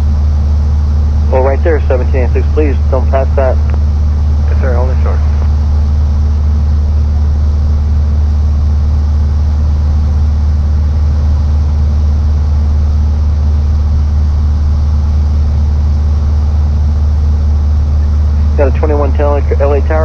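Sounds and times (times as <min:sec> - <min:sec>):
aircraft engine idling: 0:00.0 - 0:20.0.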